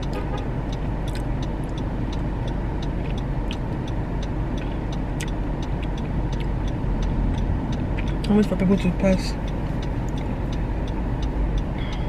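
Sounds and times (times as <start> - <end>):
car engine running: 0.0 - 12.0
faint light ticks: 0.0 - 12.0.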